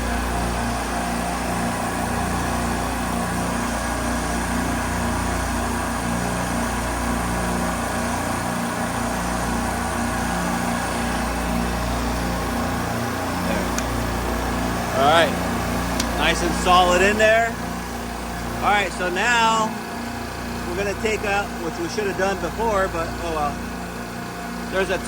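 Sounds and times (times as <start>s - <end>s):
machinery drone: 0.0s - 25.0s.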